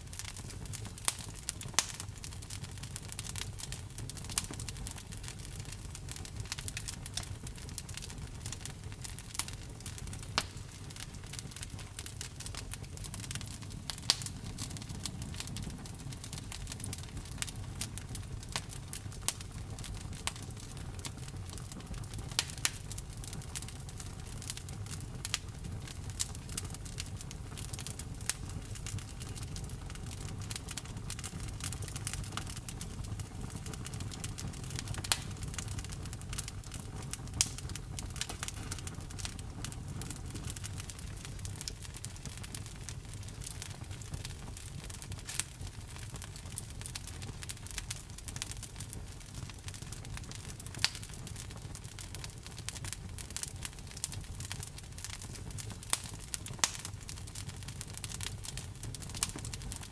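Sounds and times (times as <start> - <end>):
burning wood popping: 0.0 - 59.9
wood fire crackling: 0.0 - 59.9.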